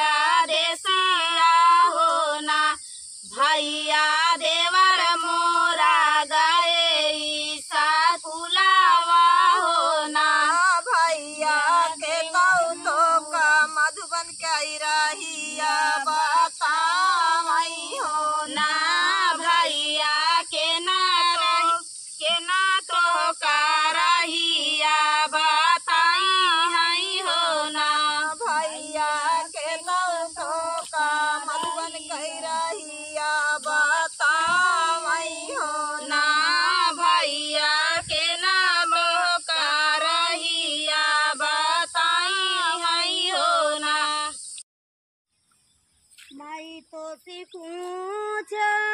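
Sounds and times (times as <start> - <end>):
woman singing folk song: 0.0 - 44.4, 46.3 - 48.9.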